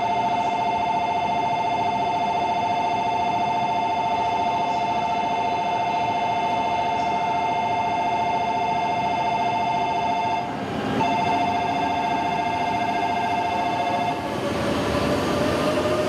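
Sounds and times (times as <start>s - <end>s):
pulsing two-pitch warning tone: 0.0s - 14.9s
low rumble of arriving train: 0.0s - 16.0s.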